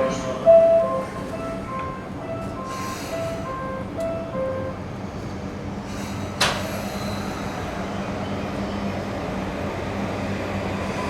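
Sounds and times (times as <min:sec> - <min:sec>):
electric train humming: 0:00.0 - 0:11.0.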